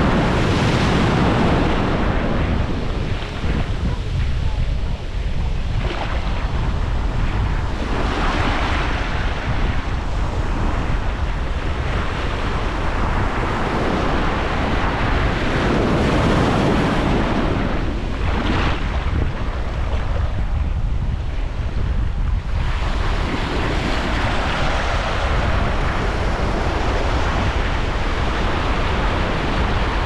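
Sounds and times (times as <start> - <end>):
surf breaking on beach: 0.0 - 30.0
wind rumbling on microphone: 0.0 - 30.0.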